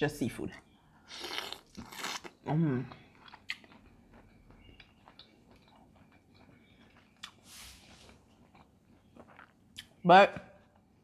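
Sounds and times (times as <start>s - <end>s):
person chewing: 1.0s - 10.0s.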